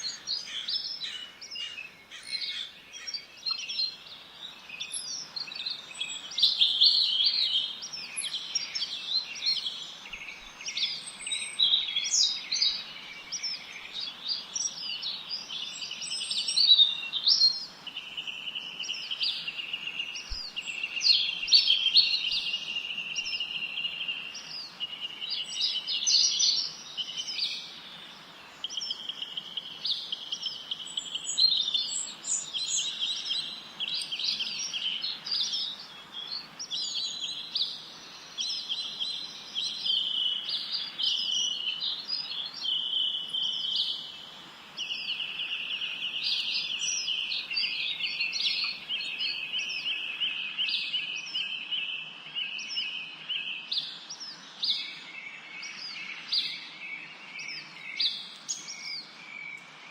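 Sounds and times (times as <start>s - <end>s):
faint steady hiss: 0.0s - 59.9s
songbirds chirping and trilling: 0.0s - 59.9s.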